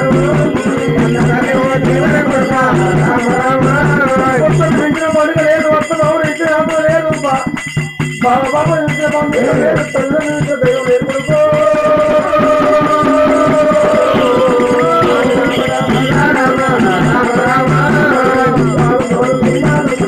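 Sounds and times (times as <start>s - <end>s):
hand drum and percussion beat: 0.0s - 20.0s
person singing wavering melody: 0.0s - 20.0s.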